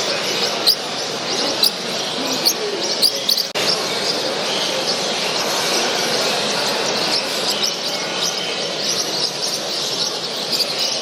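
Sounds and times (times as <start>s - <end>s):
caged birds chirping: 0.0s - 11.0s
murmur of crowd in hall: 0.0s - 11.0s.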